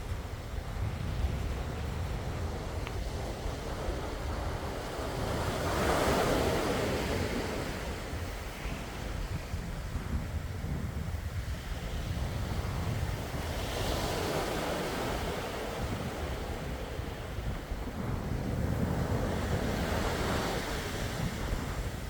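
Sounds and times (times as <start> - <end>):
low rumble of surf: 0.0 - 22.0.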